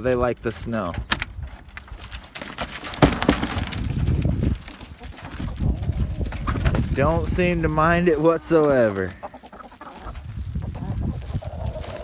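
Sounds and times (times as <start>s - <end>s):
rustling and shuffling: 0.0s - 12.0s.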